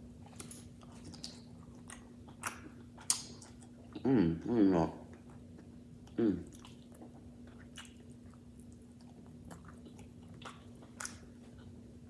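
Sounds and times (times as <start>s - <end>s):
faint steady hum: 0.0s - 12.0s
wet chewing and mouth clicks: 0.3s - 4.0s, 5.1s - 11.8s.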